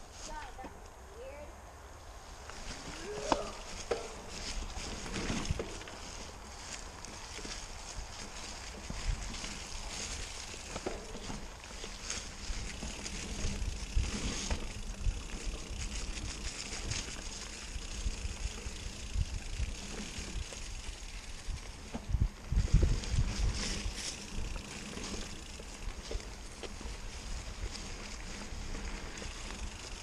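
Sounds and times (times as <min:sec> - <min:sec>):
bike tyres rolling on dirt: 0:01.7 - 0:30.0
bike rattling over bumps: 0:02.4 - 0:30.0
wind rumbling on microphone: 0:02.5 - 0:30.0.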